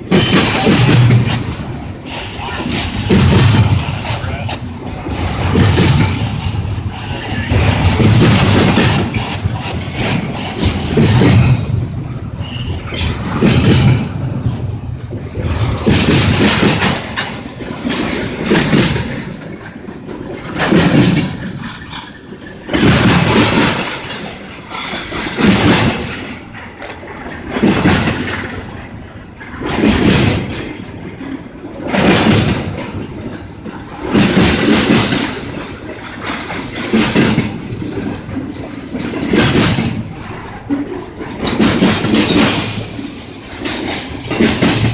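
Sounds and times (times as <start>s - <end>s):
train passing: 0.0s - 44.9s.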